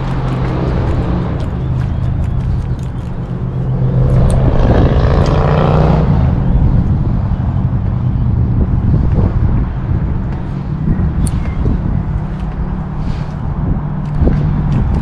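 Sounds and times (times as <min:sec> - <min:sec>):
motor engine droning: 0:00.0 - 0:15.0.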